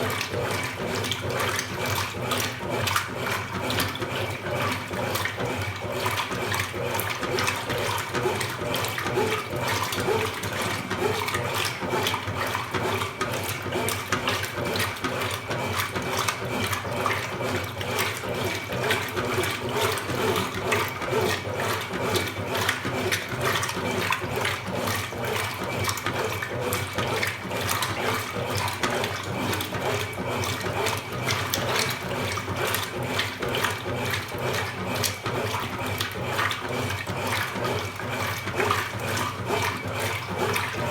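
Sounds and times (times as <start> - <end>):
washing machine running: 0.0 - 40.9
water sloshing in tub: 0.0 - 40.9.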